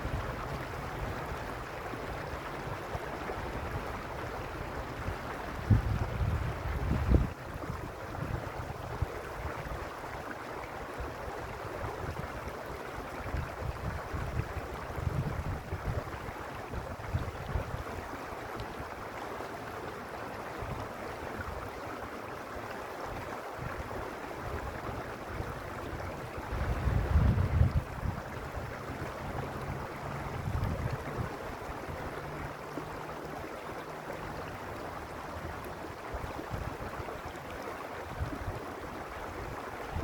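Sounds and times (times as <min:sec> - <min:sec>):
wind rumble on microphone: 0:00.0 - 0:19.0, 0:20.4 - 0:40.0
stream rushing over rocks: 0:00.0 - 0:40.0.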